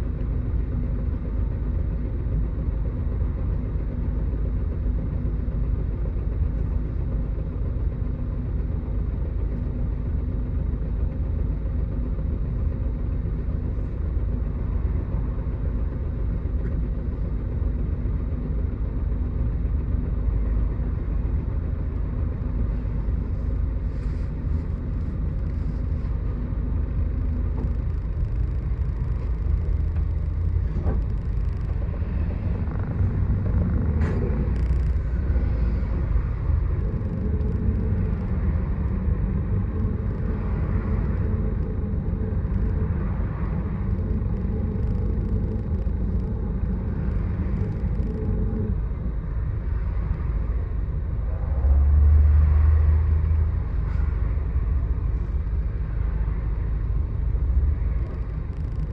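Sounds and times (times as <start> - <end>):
bus engine low rumble: 0.0 - 58.9.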